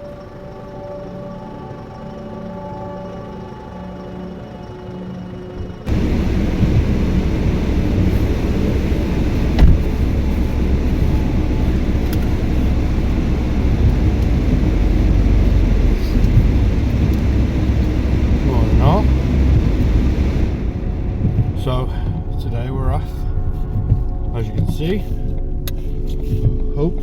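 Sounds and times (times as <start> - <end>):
road and engine rumble in car: 4.7 - 27.0.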